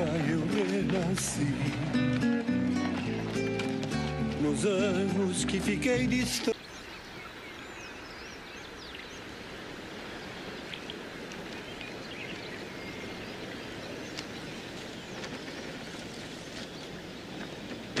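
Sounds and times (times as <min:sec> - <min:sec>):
birds chirping: 0:00.0 - 0:18.0
outdoor background hiss: 0:00.0 - 0:18.0.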